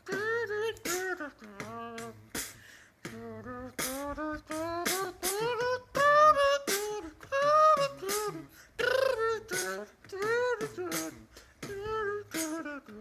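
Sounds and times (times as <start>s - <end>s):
beatboxed hissing hits: 0.0s - 13.0s.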